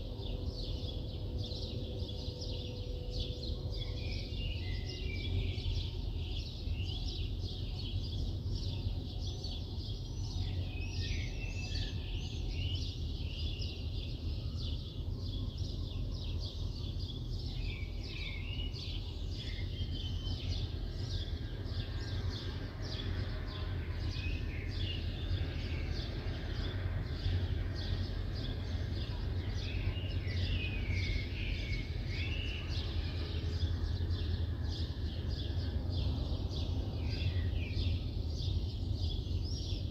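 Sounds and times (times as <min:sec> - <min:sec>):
low city rumble: 0:00.0 - 0:39.9
small birds chirping: 0:00.0 - 0:39.9.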